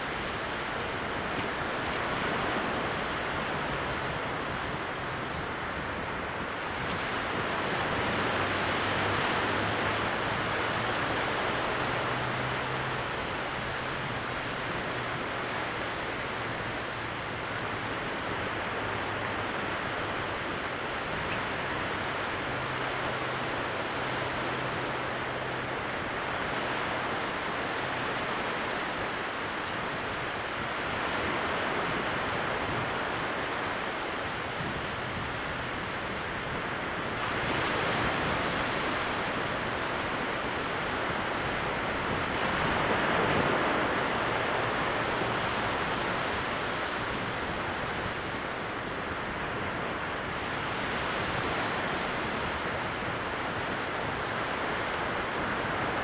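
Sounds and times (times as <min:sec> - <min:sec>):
small waves breaking gently: 0:00.0 - 0:56.0.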